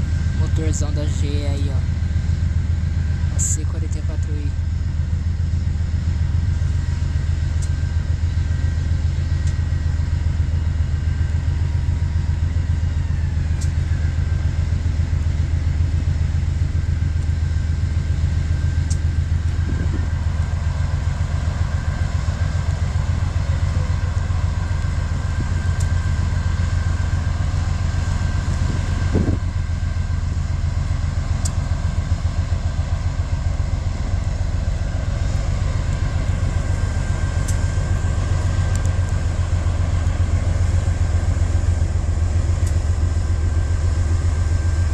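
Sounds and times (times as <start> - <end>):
locomotive diesel engine rumbling: 0.0 - 44.9.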